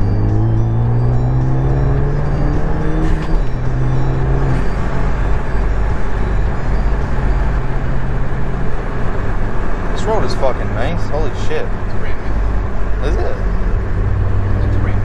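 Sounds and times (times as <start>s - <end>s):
car engine running: 0.0s - 15.0s
road and tyre noise: 0.0s - 15.0s.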